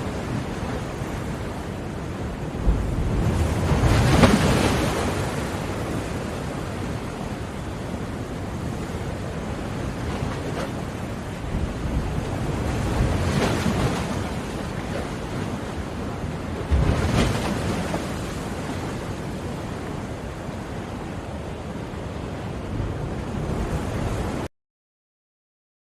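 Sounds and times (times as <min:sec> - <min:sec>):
ocean waves crashing on shore: 0:00.0 - 0:24.5.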